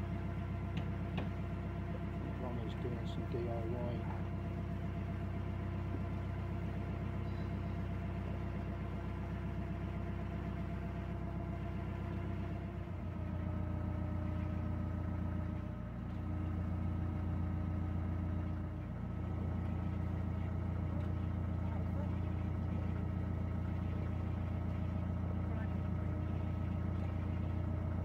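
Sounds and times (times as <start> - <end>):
diesel boat engine droning: 0.0 - 28.0.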